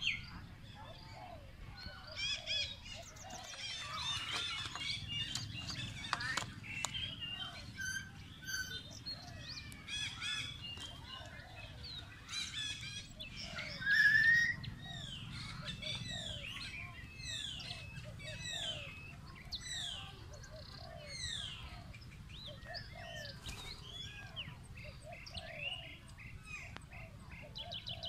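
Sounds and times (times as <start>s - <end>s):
small birds chirping and trilling: 0.0s - 28.0s.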